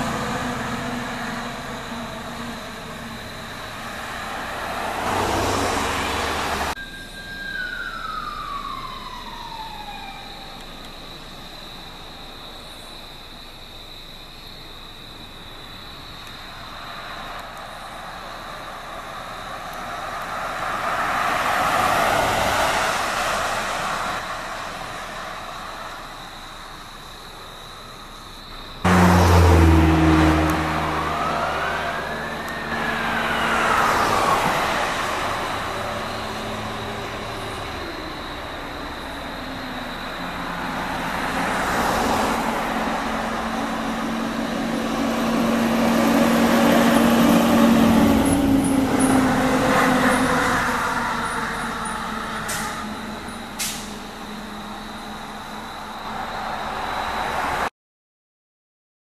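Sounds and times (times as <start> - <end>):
fire truck passing: 0.0 - 11.4, 16.4 - 27.1, 28.8 - 57.7.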